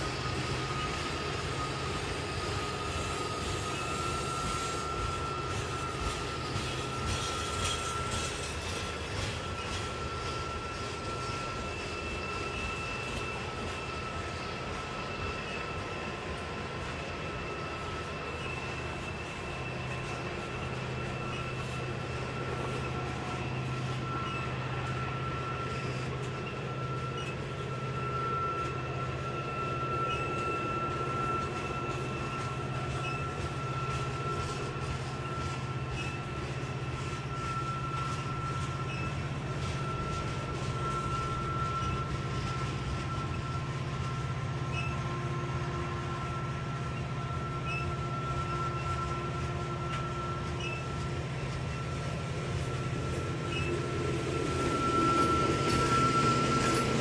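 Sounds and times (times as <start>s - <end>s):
freight train wheels rumbling on rails: 0.0s - 57.0s
high-pitched squeal: 0.0s - 57.0s
small clicks of train wheels: 0.2s - 45.3s, 46.2s - 57.0s.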